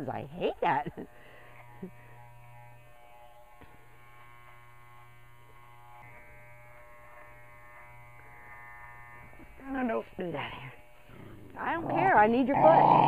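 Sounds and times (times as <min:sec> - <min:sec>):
electric clippers buzzing: 0:00.0 - 0:13.0.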